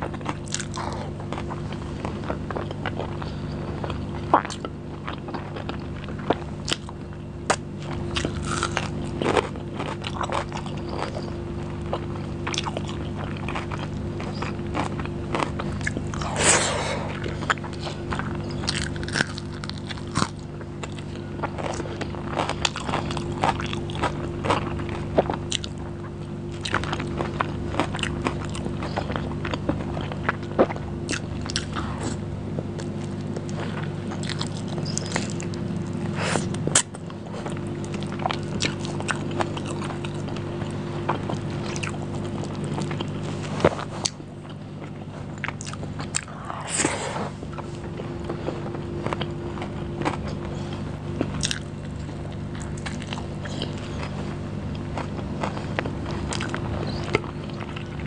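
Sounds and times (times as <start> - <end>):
chewing and mouth clicks: 0.0 - 58.0
low hum: 0.0 - 58.0.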